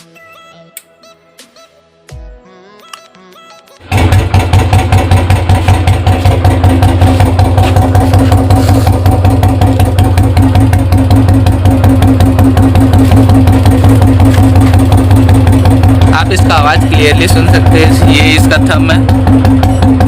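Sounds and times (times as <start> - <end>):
motorcycle engine idling: 3.8 - 20.0.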